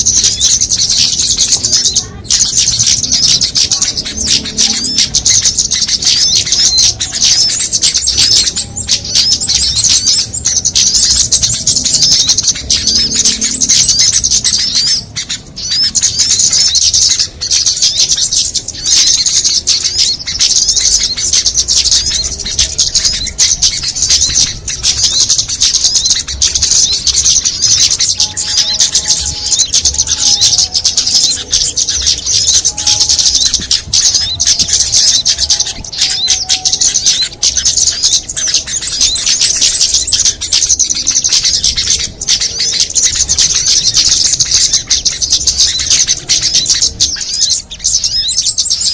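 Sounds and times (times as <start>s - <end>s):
low whistled bird notes: 0.0s - 48.9s
songbirds chirping and trilling: 0.0s - 48.9s.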